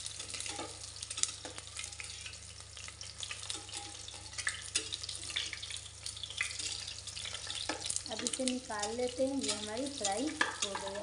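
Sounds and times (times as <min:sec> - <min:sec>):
eggs sizzling in oil: 0:00.0 - 0:11.0.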